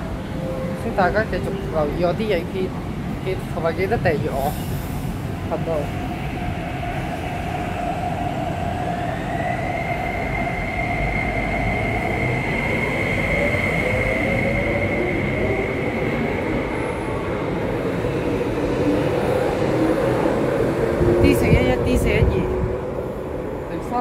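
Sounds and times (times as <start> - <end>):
train wheels rumbling: 0.0 - 24.0.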